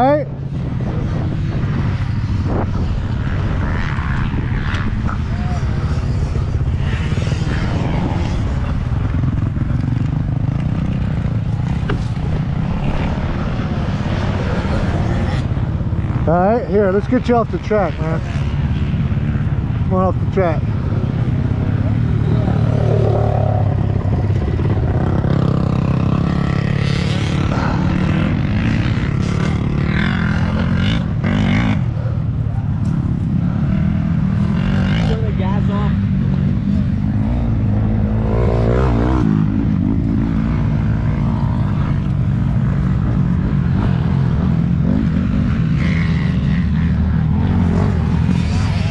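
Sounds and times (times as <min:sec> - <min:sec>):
dirt bike engine running: 0:00.0 - 0:48.9.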